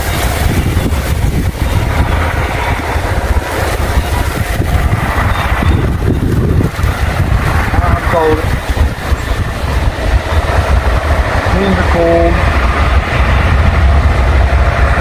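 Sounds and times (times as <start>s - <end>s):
water rushing through spillway: 0.0s - 15.0s
wind buffeting microphone: 0.0s - 15.0s.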